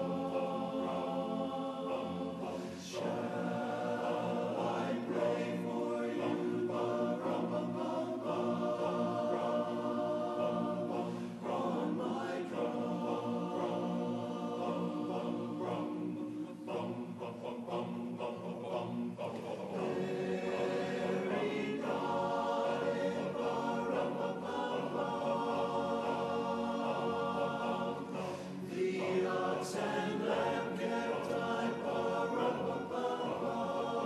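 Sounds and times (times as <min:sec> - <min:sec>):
men's chorus singing a cappella: 0:00.0 - 0:34.0.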